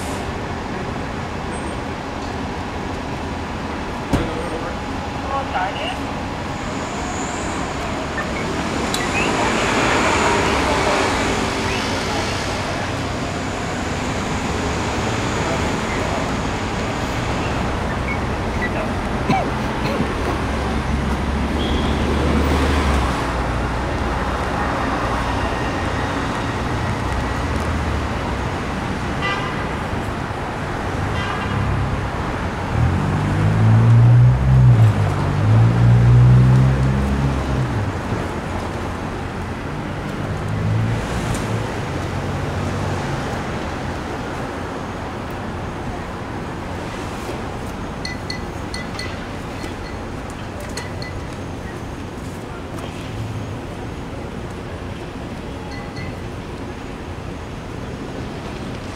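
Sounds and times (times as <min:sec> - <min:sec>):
cars passing: 0:00.0 - 0:58.9.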